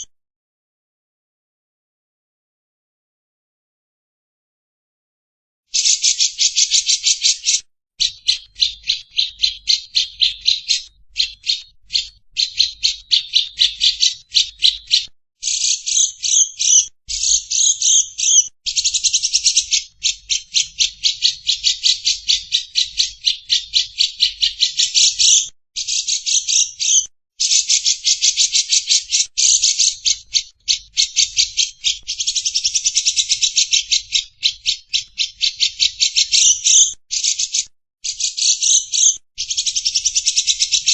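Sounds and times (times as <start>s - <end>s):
bulbul calling: 5.7s - 40.9s
lovebird chattering: 5.8s - 40.9s.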